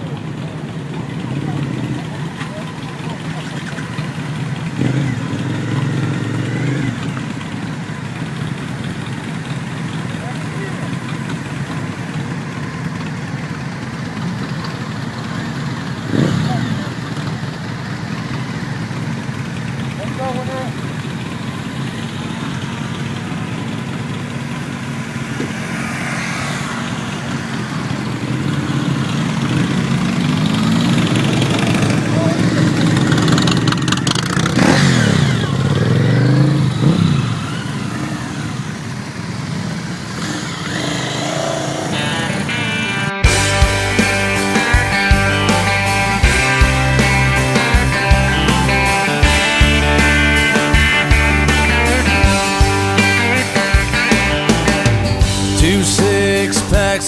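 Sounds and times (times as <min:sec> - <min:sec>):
engines idling hum: 0:00.0 - 0:57.0
motorcycle engine revving: 0:00.0 - 0:57.0.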